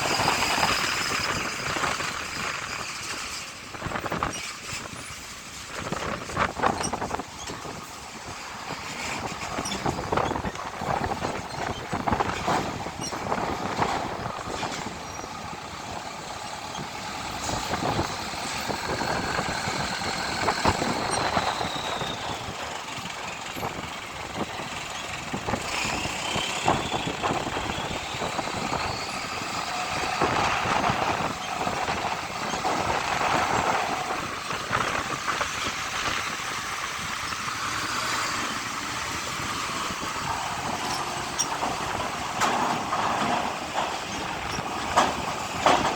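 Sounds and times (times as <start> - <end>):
diesel trucks moving slowly: 0.0 - 45.9
knocks and clatter: 0.1 - 45.9.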